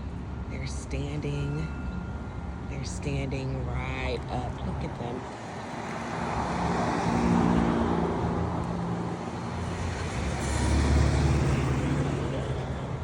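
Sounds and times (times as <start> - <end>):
cars passing by: 0.0 - 13.0.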